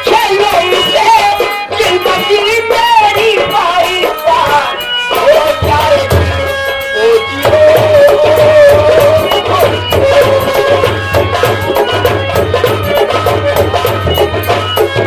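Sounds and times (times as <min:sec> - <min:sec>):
drums beating: 0:00.0 - 0:15.0
wavering melody line: 0:00.1 - 0:15.0.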